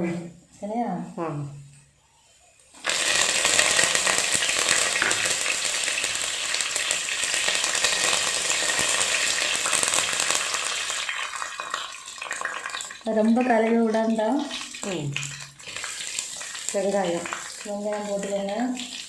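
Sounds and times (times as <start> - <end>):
oil sizzling with frying spices: 2.1 - 19.0.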